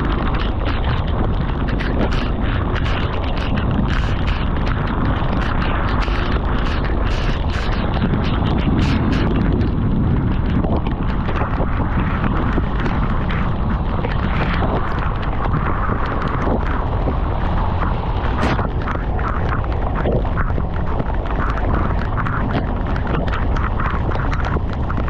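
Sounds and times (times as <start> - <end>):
motorcycle rumble: 0.0 - 25.0
road and rain noise: 0.0 - 25.0
wind buffeting microphone: 0.0 - 25.0.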